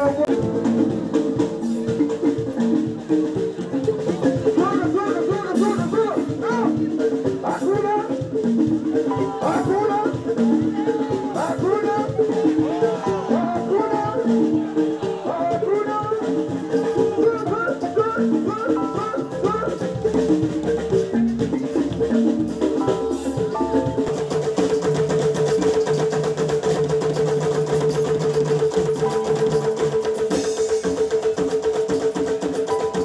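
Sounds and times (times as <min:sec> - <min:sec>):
drums and percussion: 0:00.0 - 0:33.0.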